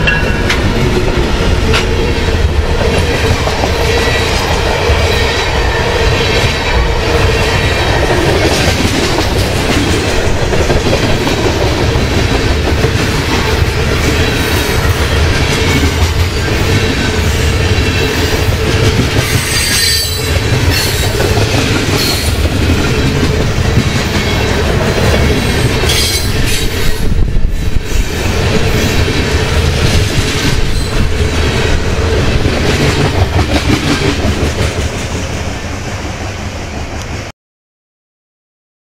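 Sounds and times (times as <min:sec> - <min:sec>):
train wheel rumble and rail clatter: 0:00.0 - 0:37.3.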